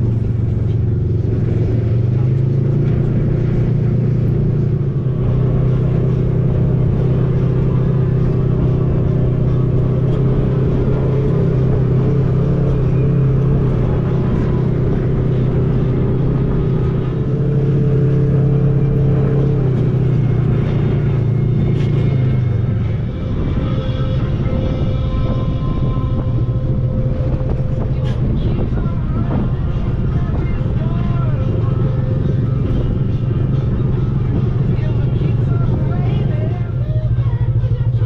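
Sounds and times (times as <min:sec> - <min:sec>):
off-road vehicle engine droning: 0:00.0 - 0:38.0.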